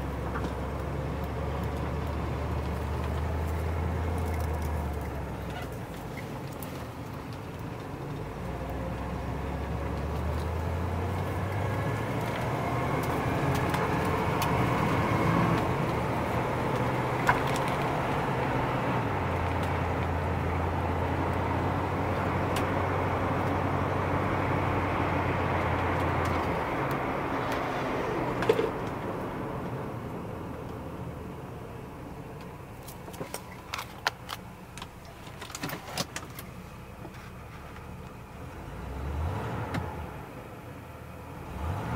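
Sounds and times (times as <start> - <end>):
car engine running: 0.0 - 41.4
road noise: 0.0 - 41.9.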